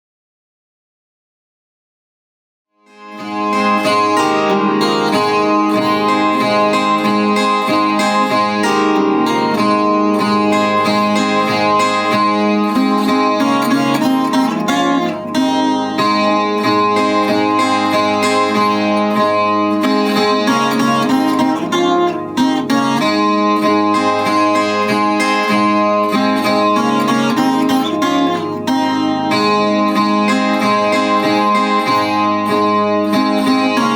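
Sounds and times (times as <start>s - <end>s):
plucked string instrument melody: 2.8s - 33.9s.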